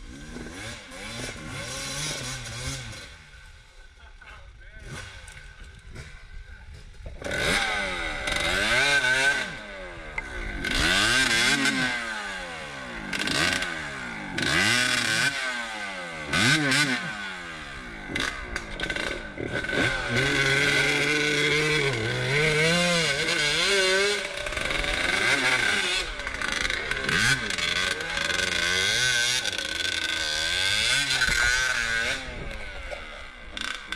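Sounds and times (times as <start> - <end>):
dirt bike engine revving: 0.0 - 4.0, 4.7 - 33.9.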